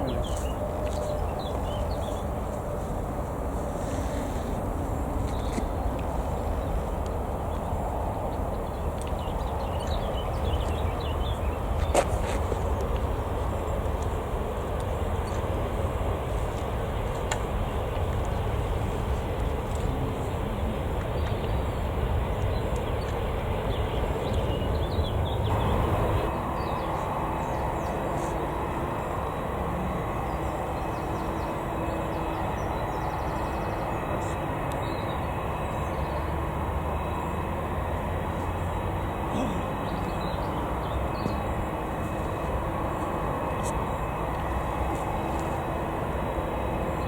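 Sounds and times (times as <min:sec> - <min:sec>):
jet engines rumbling: 0:00.0 - 0:47.0.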